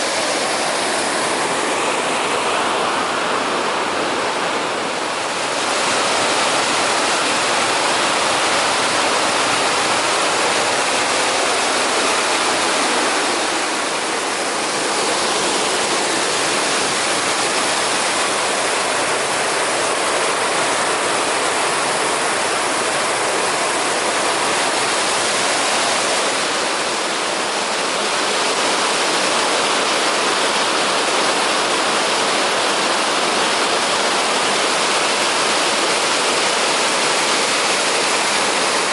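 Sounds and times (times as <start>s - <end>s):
waterfall pouring and rushing: 0.0s - 38.9s.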